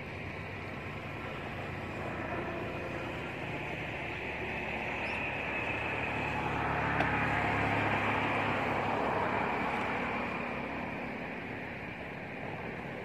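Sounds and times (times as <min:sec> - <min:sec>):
motor vehicle passing by: 0:00.0 - 0:13.0.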